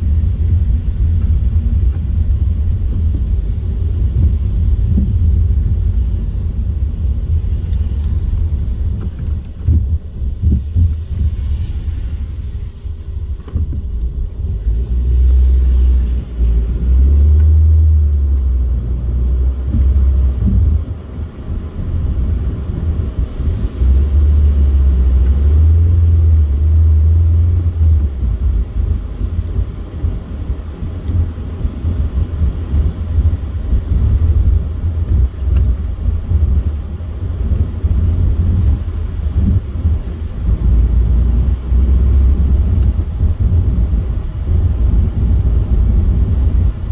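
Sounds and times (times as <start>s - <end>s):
car road rumble: 0.0s - 46.9s.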